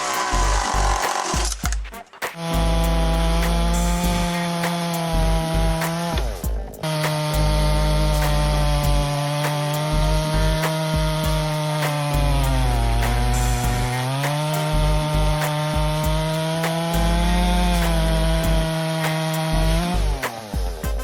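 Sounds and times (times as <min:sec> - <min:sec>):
chainsaw cutting wood: 0:00.0 - 0:20.9.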